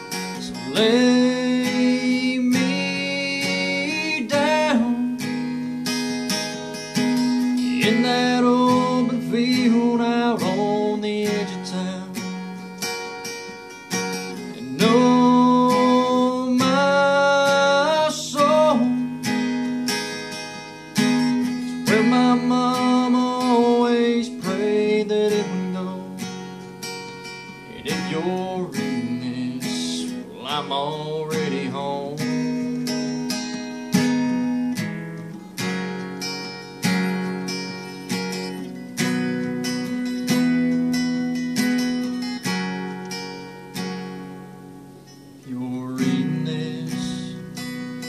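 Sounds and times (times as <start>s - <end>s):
acoustic guitar strumming: 0.0s - 48.0s
held melody line: 0.0s - 48.0s.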